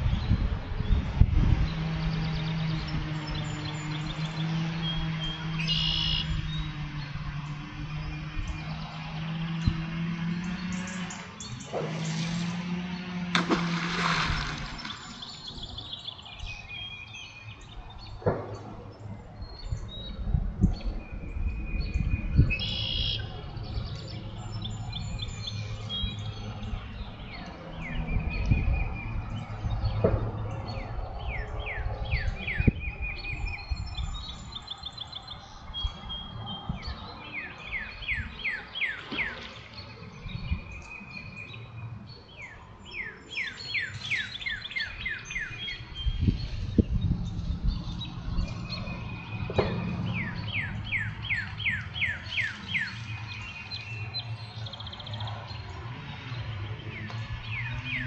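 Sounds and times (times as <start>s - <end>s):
birds singing and calling: 0.0s - 58.0s.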